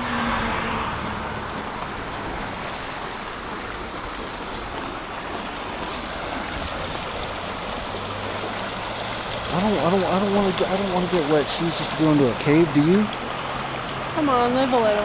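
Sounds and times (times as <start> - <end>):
creek water rushing over rocks: 0.0 - 15.0.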